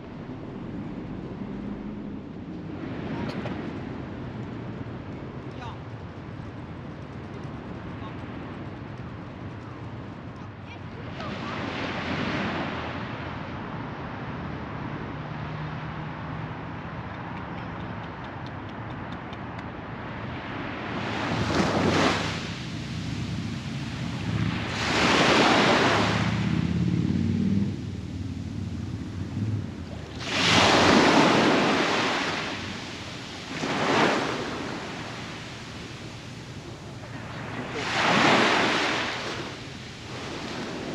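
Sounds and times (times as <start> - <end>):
waves breaking on a beach: 0.0 - 6.1, 10.4 - 19.1, 19.9 - 40.9.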